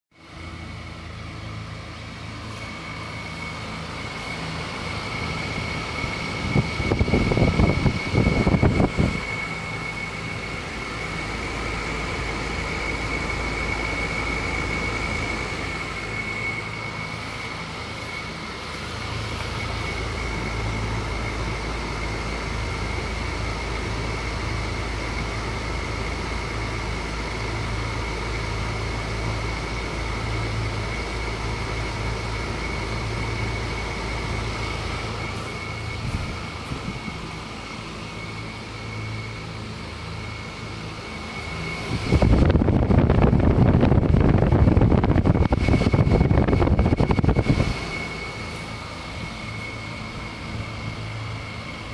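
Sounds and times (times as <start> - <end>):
air conditioner unit humming: 0.1 - 51.9
thin high whine: 0.1 - 51.9.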